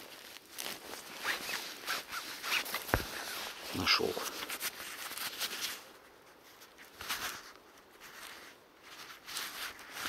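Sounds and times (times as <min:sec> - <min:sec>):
soil and leaf litter rustling: 0:00.0 - 0:10.0.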